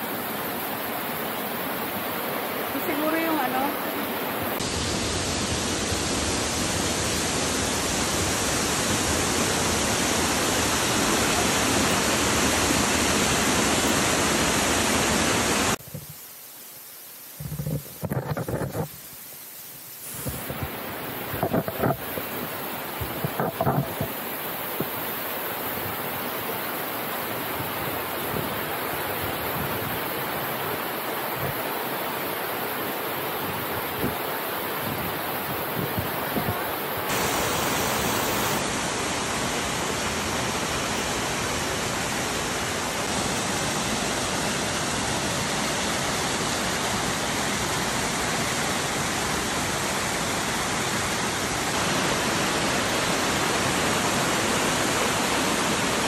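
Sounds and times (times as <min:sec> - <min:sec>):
water rushing over rocks: 0:00.0 - 0:16.3, 0:17.3 - 0:19.3, 0:20.0 - 0:56.0.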